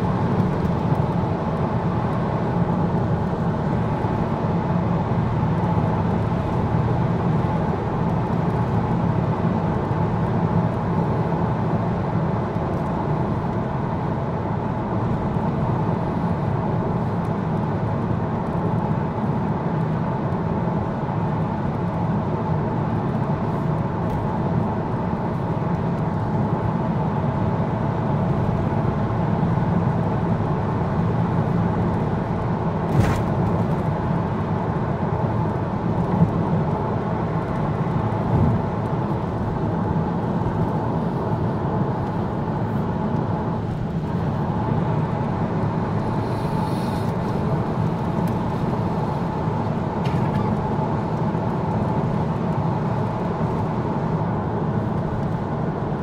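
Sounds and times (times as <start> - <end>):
road and engine noise in car: 0.0 - 56.0.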